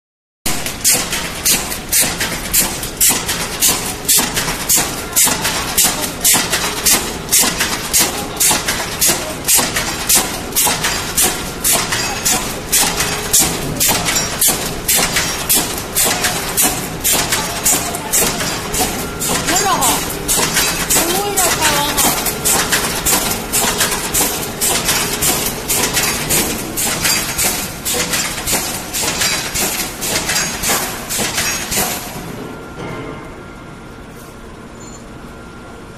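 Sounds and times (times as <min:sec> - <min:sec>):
welding machine hissing clack: 0:00.5 - 0:32.3.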